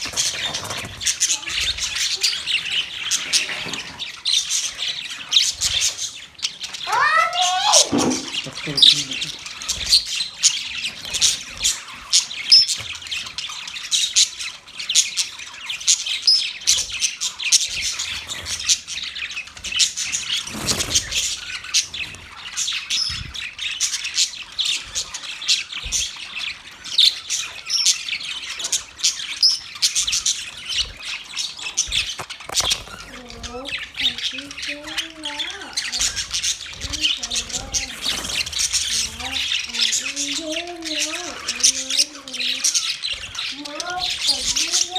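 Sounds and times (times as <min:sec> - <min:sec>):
budgerigars chattering and chirping: 0:00.0 - 0:44.9.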